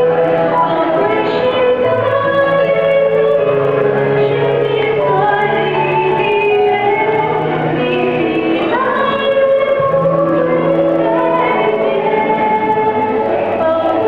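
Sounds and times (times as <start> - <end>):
keyboard accompaniment: 0.0 - 14.0.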